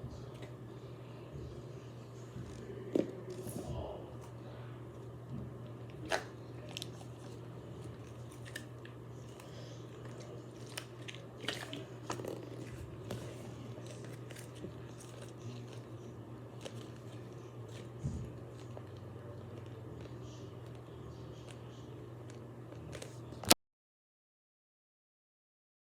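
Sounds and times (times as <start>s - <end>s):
steady low hum: 0.0s - 23.6s.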